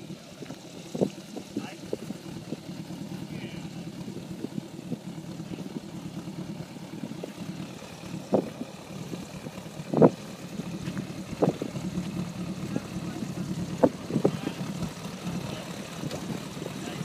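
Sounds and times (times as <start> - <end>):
aircraft engine running: 0.0 - 17.0.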